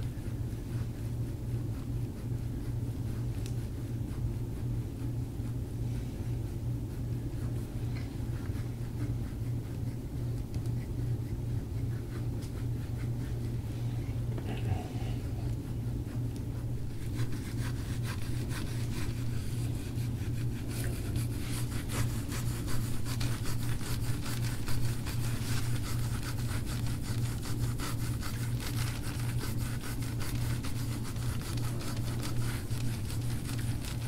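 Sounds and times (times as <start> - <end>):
steady low hum: 0.0 - 34.0
tool scraping over oiled skin: 0.6 - 34.0.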